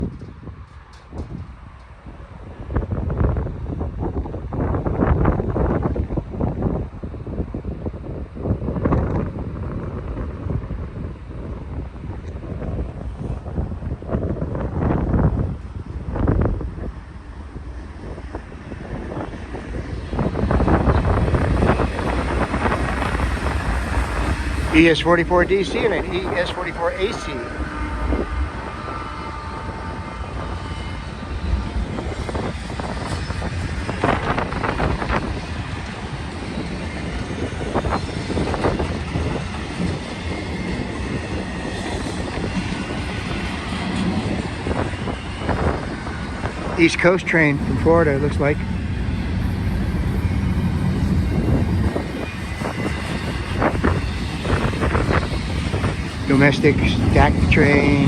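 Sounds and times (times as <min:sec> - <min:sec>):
diesel train rumble: 0:00.0 - 0:58.0.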